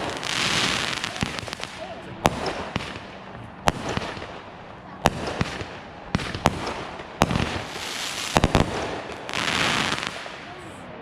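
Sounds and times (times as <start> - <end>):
firework bangs: 0.0 - 10.6
firework crackle: 0.0 - 10.7.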